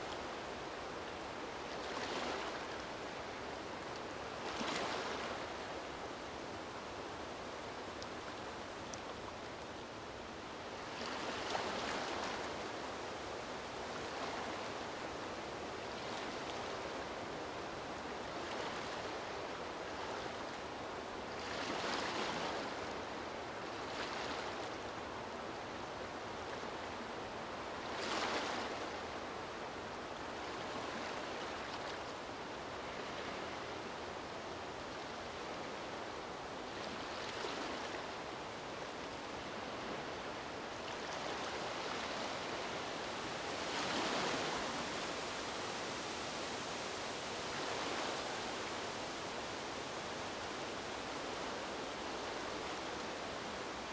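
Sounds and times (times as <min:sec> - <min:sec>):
waves lapping at shore: 0:00.0 - 0:53.9.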